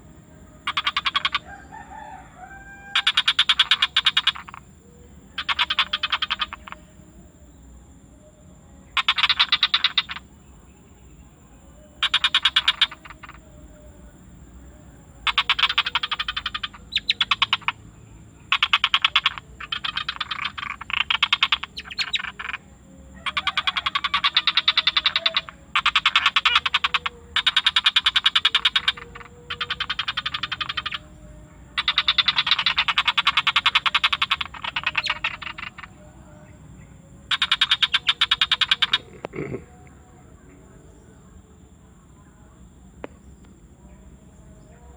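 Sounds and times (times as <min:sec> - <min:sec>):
faint high-pitched whine: 0:00.0 - 0:44.9
frogs calling in rapid pulses: 0:00.0 - 0:44.9.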